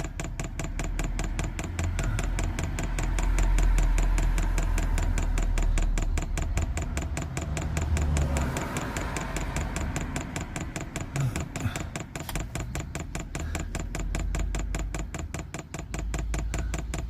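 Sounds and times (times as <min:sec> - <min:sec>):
fuel pump clicking rapidly: 0:00.0 - 0:17.0.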